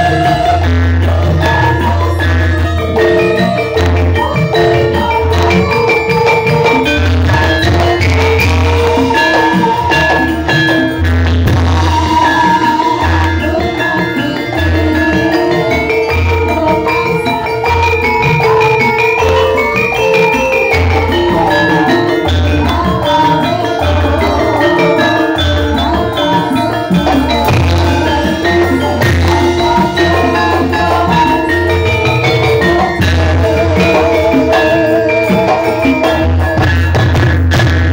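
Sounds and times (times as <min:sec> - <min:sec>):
struck metal keys melody: 0:00.0 - 0:37.9.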